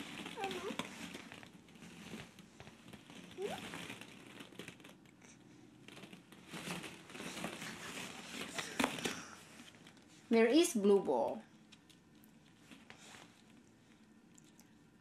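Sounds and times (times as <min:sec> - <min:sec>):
plastic balls rustling and clacking: 0:00.0 - 0:15.0.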